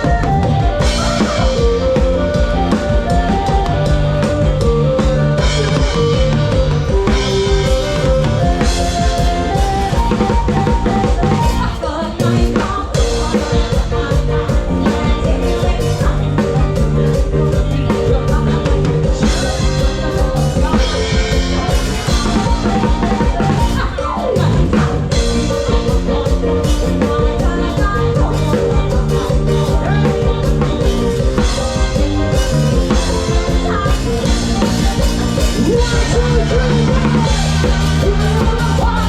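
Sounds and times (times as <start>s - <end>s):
drum kit beat: 0.0s - 39.0s
live band playing: 0.0s - 39.0s.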